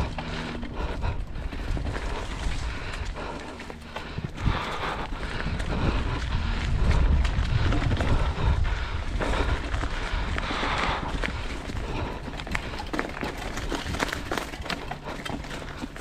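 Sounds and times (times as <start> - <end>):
wind rumble on microphone: 0.0 - 14.8
bike clicks and rattles: 0.0 - 16.0
tyres rumbling over rocks: 0.0 - 16.0.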